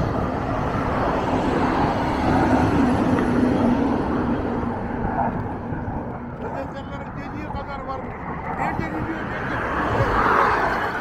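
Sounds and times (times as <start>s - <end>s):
fighter jet roaring overhead: 0.0s - 11.0s.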